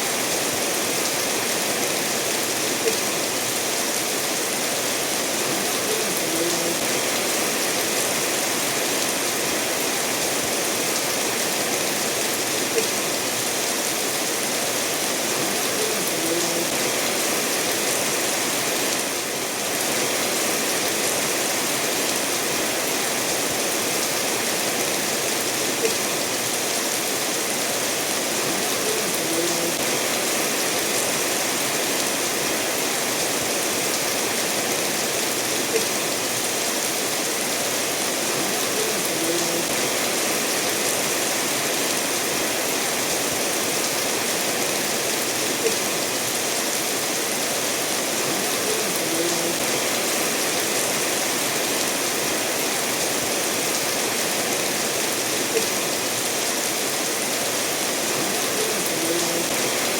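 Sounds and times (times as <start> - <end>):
steady rain falling: 0.0 - 59.9
stream running over stones: 0.0 - 59.9.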